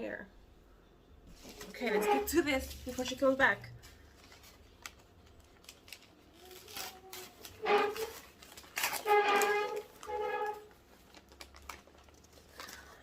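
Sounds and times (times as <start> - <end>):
plastic packaging rustling: 1.3 - 13.0.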